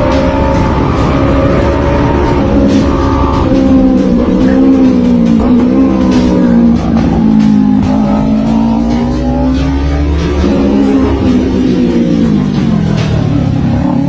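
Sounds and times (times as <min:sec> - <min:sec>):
background music: 0:00.0 - 0:14.0
motorcycle engine at speed: 0:00.0 - 0:14.0.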